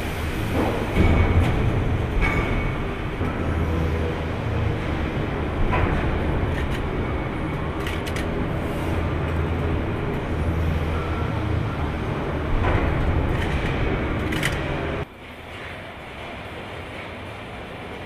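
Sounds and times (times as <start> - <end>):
factory machinery rumble: 0.0 - 18.0.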